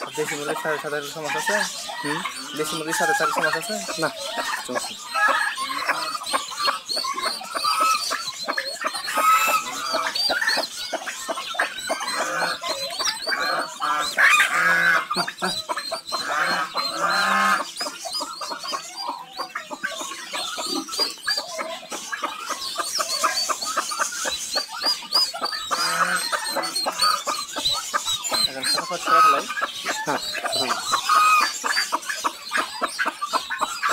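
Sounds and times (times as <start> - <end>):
baby chicks peeping: 0.0 - 33.9
louder lower chick calls: 0.0 - 33.9.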